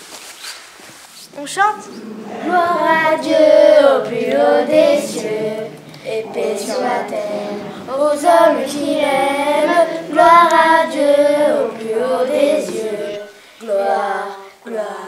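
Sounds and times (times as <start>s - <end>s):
children singing slow melody: 1.8s - 15.0s.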